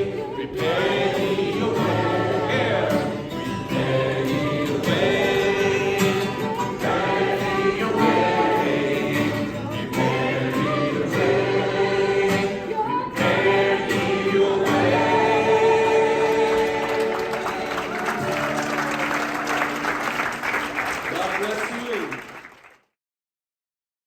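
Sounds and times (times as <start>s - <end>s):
choir singing gospel: 0.0s - 20.4s.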